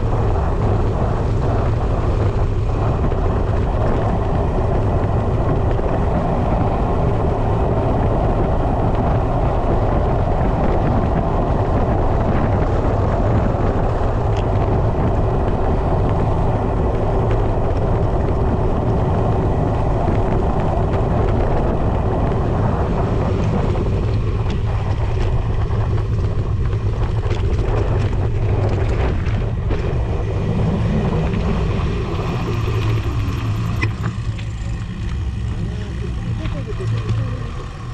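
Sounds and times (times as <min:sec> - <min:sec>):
bike tyres rumbling on dirt: 0:00.0 - 0:37.9
wind buffeting microphone: 0:00.0 - 0:37.9.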